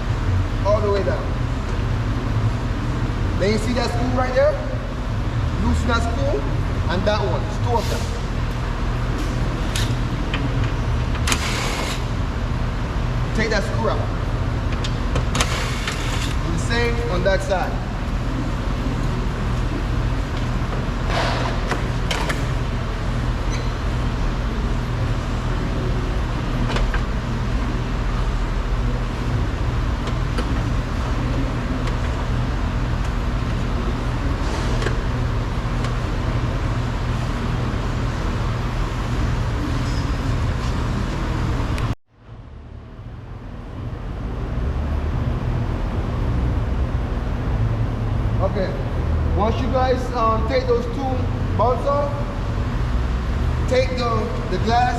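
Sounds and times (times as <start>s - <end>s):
vehicle low rumble: 0.0s - 54.9s.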